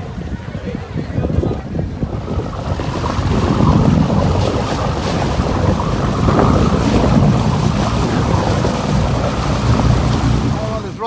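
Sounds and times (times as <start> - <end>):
boat: 0.0 - 11.0
rushing water: 0.0 - 11.0
wind buffeting microphone: 0.0 - 11.0.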